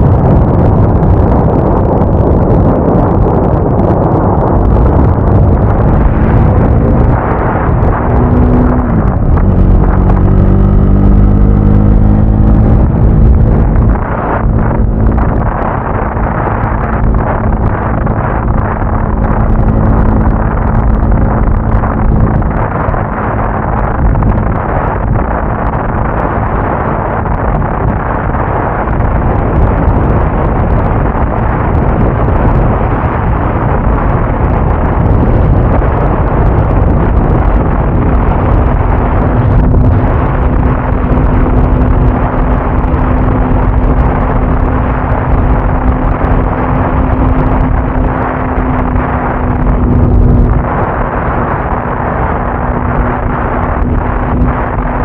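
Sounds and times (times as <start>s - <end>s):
motorcycle engine humming: 0.0s - 55.0s
wind buffeting microphone: 0.0s - 55.0s.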